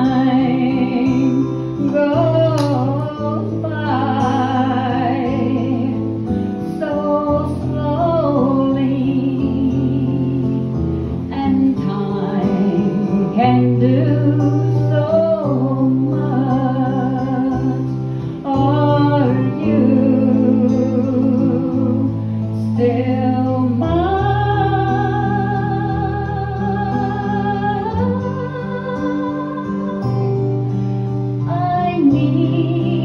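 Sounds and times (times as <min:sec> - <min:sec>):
acoustic guitar: 0:00.0 - 0:33.0
woman singing with vibrato: 0:00.0 - 0:33.0.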